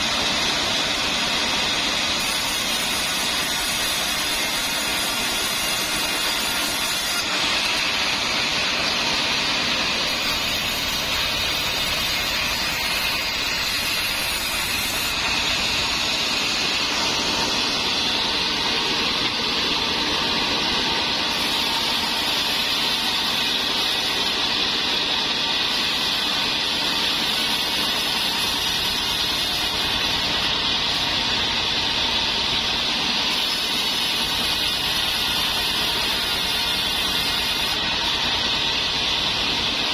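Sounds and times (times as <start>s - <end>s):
band sawmill cutting timber: 0.0s - 39.9s.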